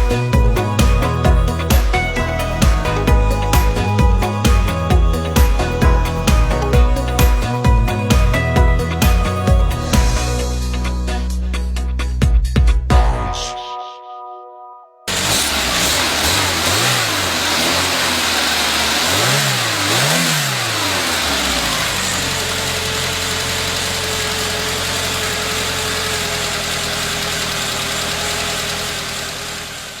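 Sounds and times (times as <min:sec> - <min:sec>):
car engine revving: 0:00.0 - 0:12.1, 0:15.1 - 0:30.0.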